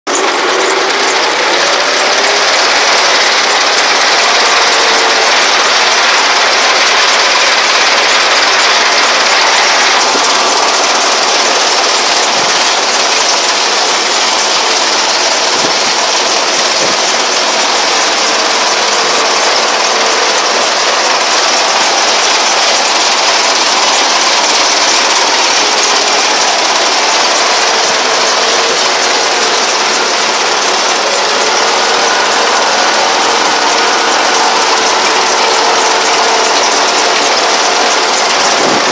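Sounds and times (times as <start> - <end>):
tractor engine: 0.0 - 38.9
harvester mechanical clatter: 0.1 - 38.9.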